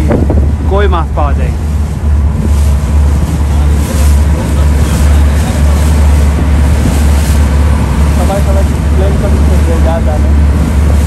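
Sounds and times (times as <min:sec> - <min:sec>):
boat engine rumble: 0:00.0 - 0:11.0
water rushing past: 0:00.0 - 0:11.0
wind buffeting microphone: 0:00.0 - 0:11.0.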